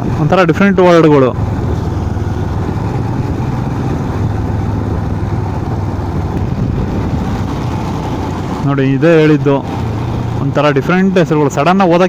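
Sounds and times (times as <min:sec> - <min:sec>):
motorcycle engine running: 0:00.0 - 0:11.5
road and wind noise: 0:00.0 - 0:12.0.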